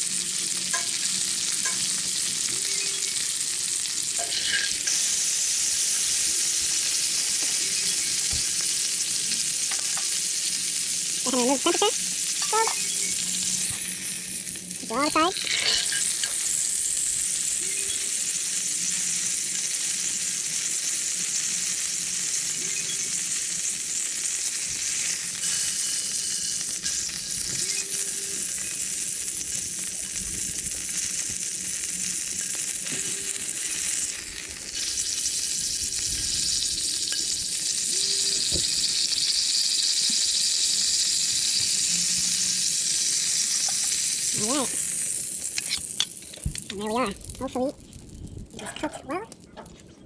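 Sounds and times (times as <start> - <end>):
steak sizzling in a skillet: 0.0 - 48.9.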